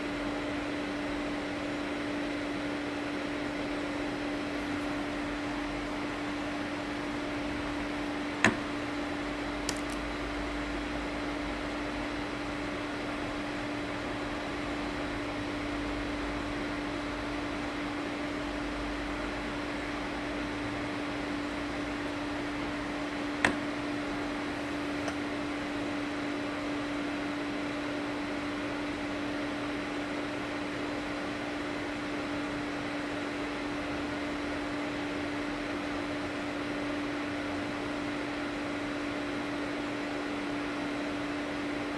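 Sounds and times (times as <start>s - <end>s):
steady machine hum: 0.0s - 41.9s.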